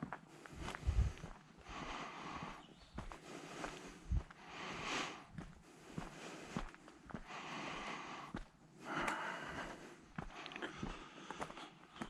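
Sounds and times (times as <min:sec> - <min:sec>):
footsteps crunching on trail: 0:00.0 - 0:12.0.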